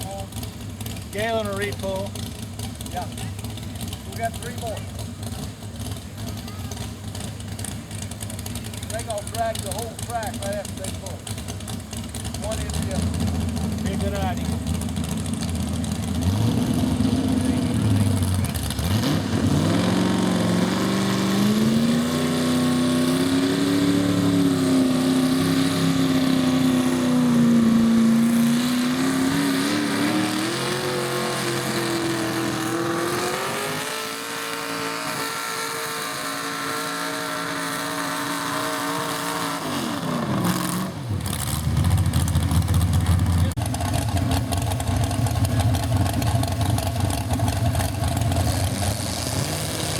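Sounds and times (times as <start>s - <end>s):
tractor engine revving under load: 0.0s - 49.9s.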